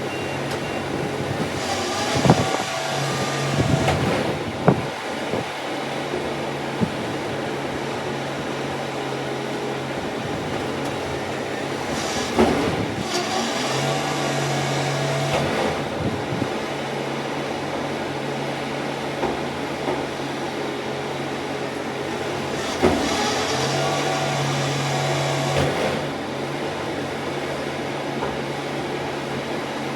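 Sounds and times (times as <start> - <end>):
bins banging: 0.0 - 29.8
garbage truck engine running: 0.0 - 29.9
machinery whine: 0.0 - 29.9.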